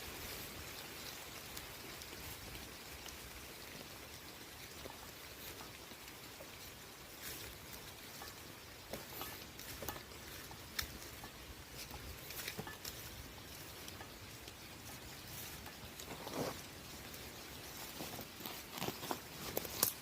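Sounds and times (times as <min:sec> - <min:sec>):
light rain hiss: 0:00.0 - 0:20.0
raindrops ticking: 0:00.0 - 0:20.0.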